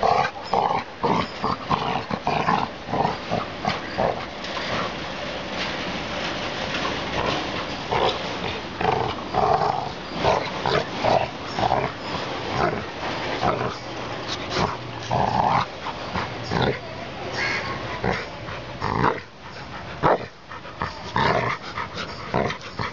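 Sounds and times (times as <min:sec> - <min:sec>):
dogs growling: 0:00.0 - 0:05.0, 0:06.8 - 0:22.9.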